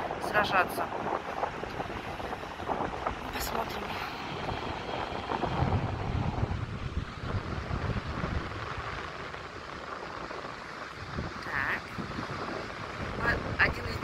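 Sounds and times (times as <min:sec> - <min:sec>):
surf hissing: 0:00.0 - 0:14.0
wind buffeting microphone: 0:00.0 - 0:14.0.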